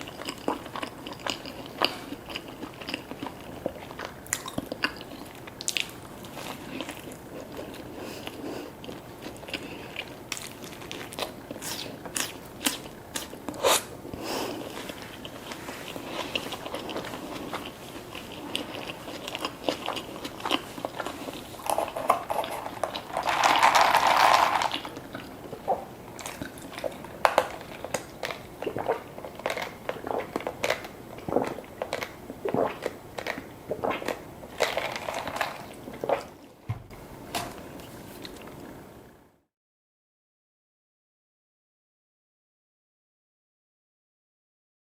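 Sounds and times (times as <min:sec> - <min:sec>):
crunching and chewing food: 0:00.0 - 0:36.6.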